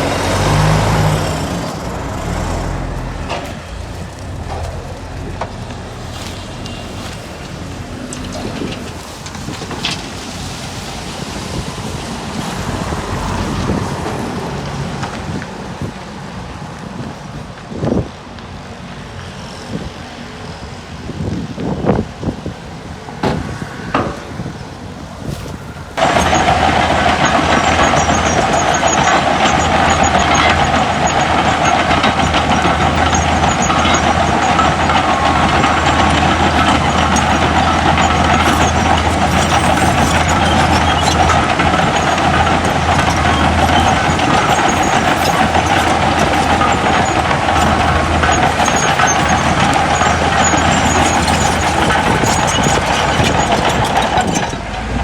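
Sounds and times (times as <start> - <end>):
engine running close by: 0.0 - 16.0, 25.2 - 55.0
heavy diesel machinery working: 0.0 - 55.0.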